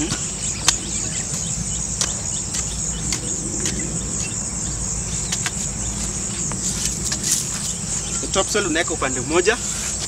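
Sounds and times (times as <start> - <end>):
high-pitched insect trill: 0.0 - 10.0.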